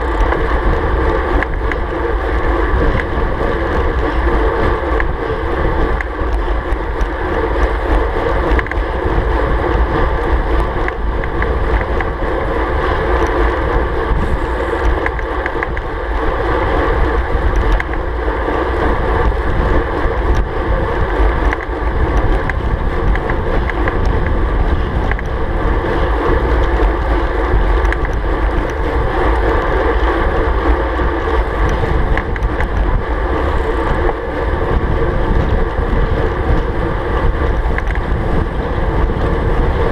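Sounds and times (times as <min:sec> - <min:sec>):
road noise: 0:00.0 - 0:39.9
wind rush on microphone: 0:00.0 - 0:39.9.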